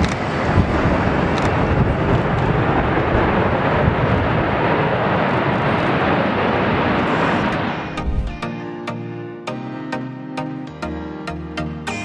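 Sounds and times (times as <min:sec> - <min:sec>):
jet engines rumbling: 0:00.2 - 0:10.1.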